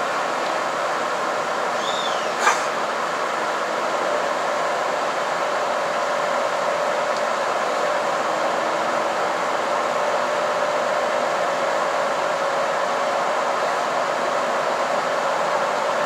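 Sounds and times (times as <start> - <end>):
train cabin mechanical hum and hiss: 0.0 - 16.0.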